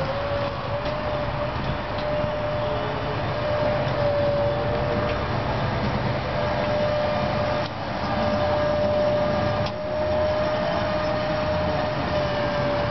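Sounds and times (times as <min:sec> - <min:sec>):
electric forklift whine: 0:00.0 - 0:12.9.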